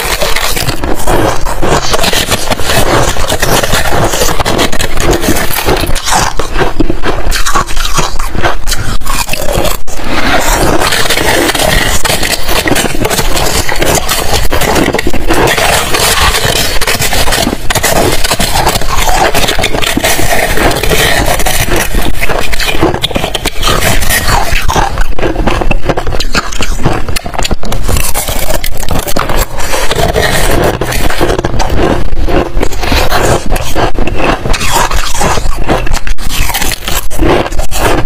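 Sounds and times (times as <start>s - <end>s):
metal spoon scraping ice: 0.0s - 38.0s.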